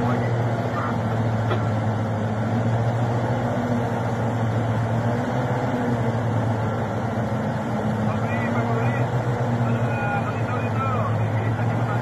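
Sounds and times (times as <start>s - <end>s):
motor engine humming steadily: 0.0s - 12.0s.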